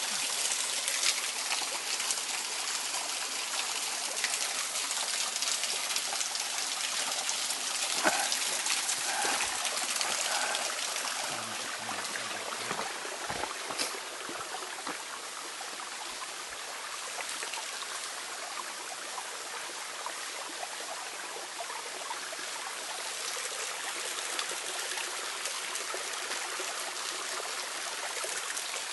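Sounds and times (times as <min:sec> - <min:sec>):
stream trickling over rocks: 0:00.0 - 0:28.9.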